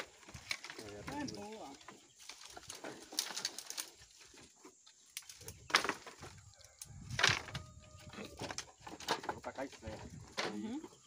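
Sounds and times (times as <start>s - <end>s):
branches clattering and cracking: 0.0s - 11.0s.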